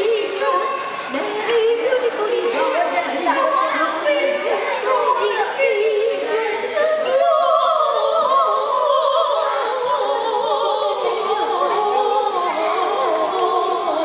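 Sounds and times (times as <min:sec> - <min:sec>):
women and boy singing carol: 0:00.0 - 0:14.0.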